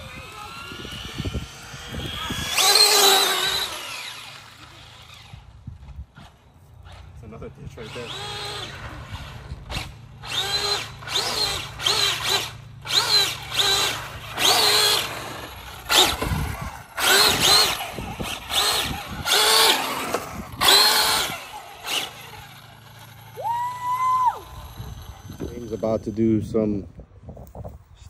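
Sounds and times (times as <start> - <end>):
rc car motor whining: 0.0 - 26.7.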